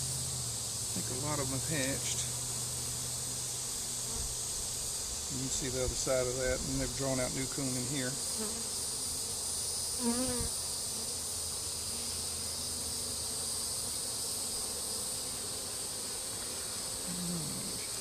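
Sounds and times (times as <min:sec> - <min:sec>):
high-pitched insect chorus: 0:00.0 - 0:18.0
honey bees buzzing: 0:00.0 - 0:18.0.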